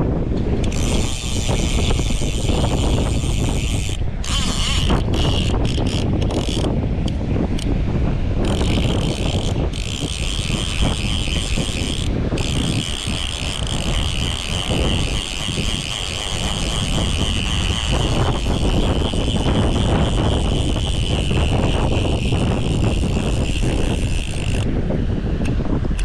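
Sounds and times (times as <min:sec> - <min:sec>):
wind: 0:00.0 - 0:26.0
fishing reel ratchet buzzing: 0:00.5 - 0:07.7, 0:08.4 - 0:24.7.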